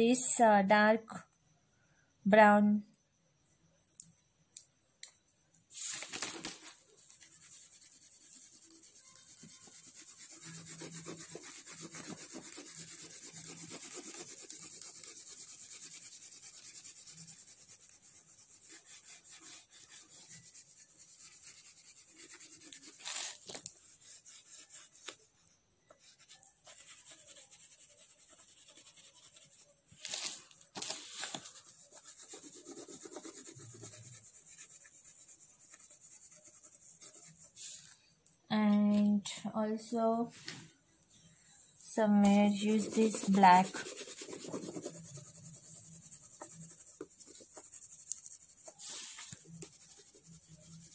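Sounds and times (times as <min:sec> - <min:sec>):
oil pastel scratching on paper: 0:05.7 - 0:38.0, 0:42.0 - 0:50.9.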